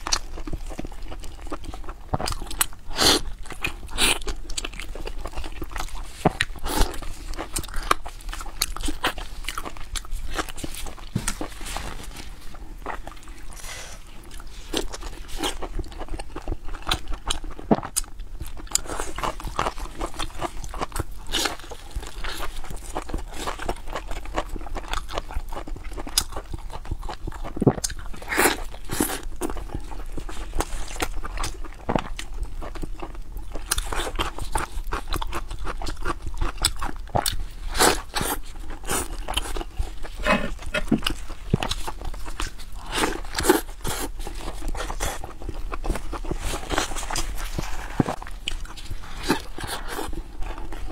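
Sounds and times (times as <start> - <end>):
wet chewing and mouth smacking: 0.0 - 50.9.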